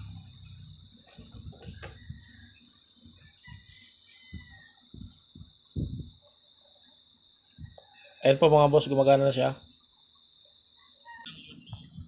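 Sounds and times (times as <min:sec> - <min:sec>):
faint chirps: 0:00.0 - 0:12.0
high-pitched insect-like drone: 0:00.0 - 0:12.0.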